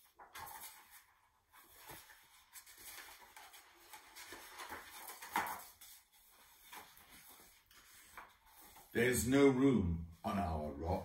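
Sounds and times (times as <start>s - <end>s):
page flap: 0.0s - 8.9s
book pages turning: 0.0s - 9.2s.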